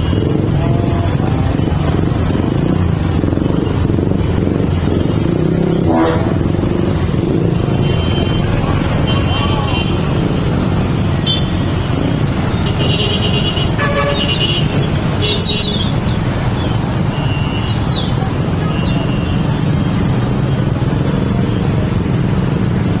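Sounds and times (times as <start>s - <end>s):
traffic engine rumble: 0.0s - 23.0s.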